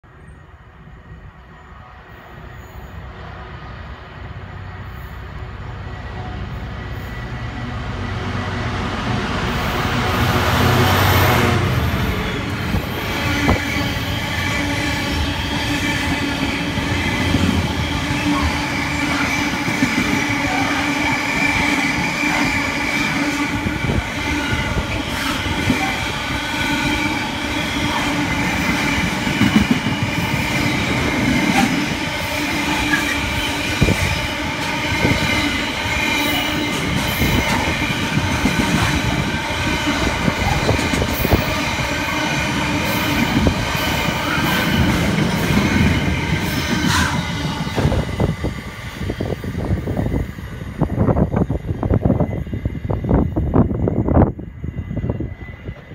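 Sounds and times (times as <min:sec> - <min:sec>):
diesel locomotive engine passing: 0:00.1 - 0:55.9
freight train wagons rolling past: 0:00.1 - 0:55.9.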